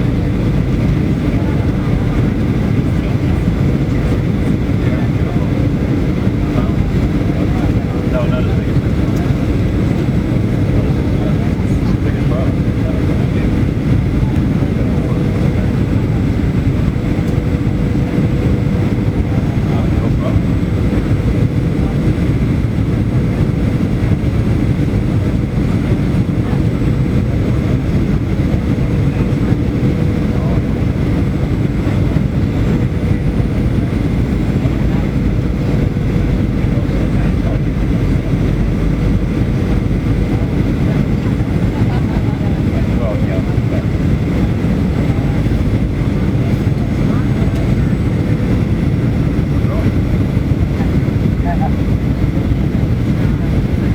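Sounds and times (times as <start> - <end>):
jet engines roaring in cabin: 0.0 - 53.9.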